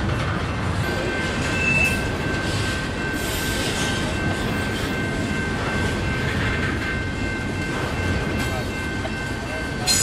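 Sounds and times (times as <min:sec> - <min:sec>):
freight train rumbling: 0:00.0 - 0:10.0.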